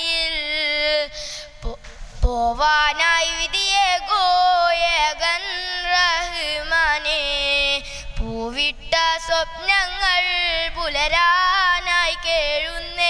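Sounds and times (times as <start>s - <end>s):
boy singing: 0.0s - 13.0s.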